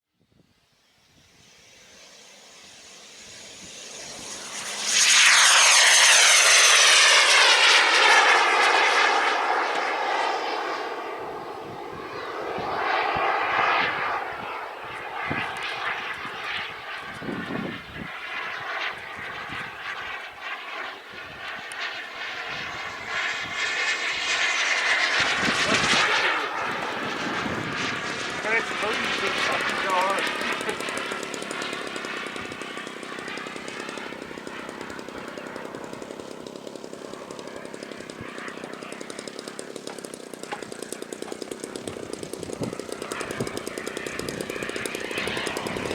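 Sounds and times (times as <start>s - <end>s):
model aircraft engine passing: 0.2s - 45.9s.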